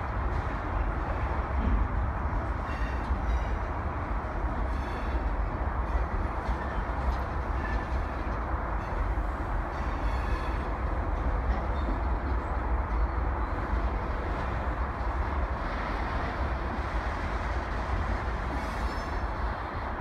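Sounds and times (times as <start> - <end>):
distant train rumbling: 0.0 - 20.0.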